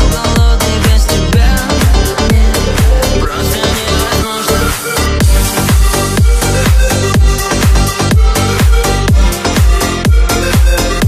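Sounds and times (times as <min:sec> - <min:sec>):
electronic dance music: 0:00.0 - 0:11.0
synth chords: 0:00.0 - 0:11.0.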